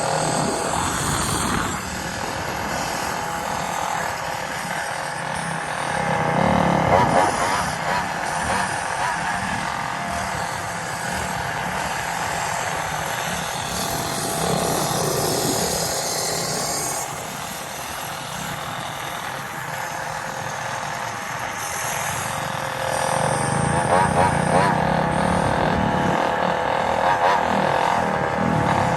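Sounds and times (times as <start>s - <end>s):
small gasoline engine running: 0.0s - 28.9s.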